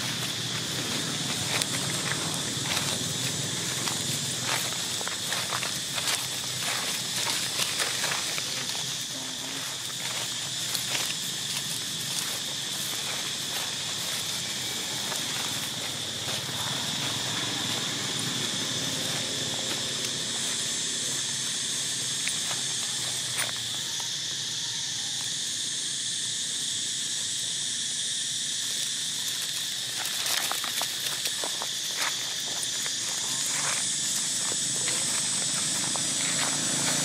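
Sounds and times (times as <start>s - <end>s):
dry leaves crackling: 0.0s - 24.2s, 28.8s - 37.0s
high-pitched insect drone: 0.0s - 37.0s.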